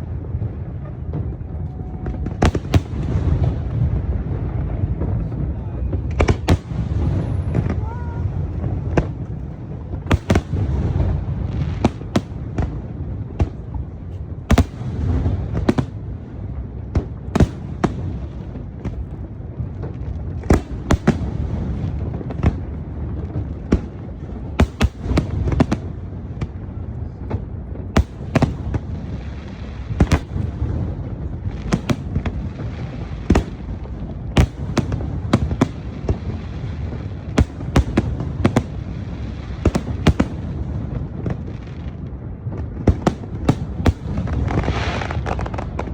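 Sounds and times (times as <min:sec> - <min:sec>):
fireworks cracking and banging: 0:00.0 - 0:45.9
low rumble: 0:00.0 - 0:45.9.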